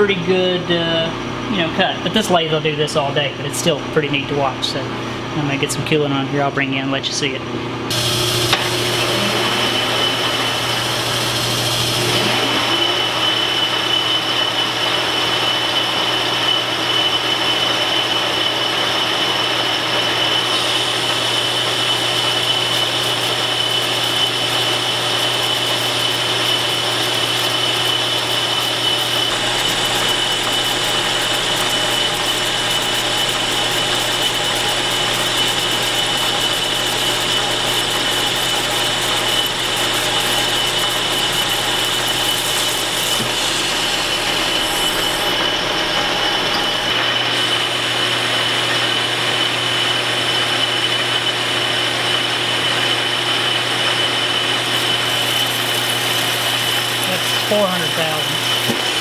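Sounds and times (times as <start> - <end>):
lathe humming: 7.8 - 59.0
high cutting whine: 7.9 - 59.0.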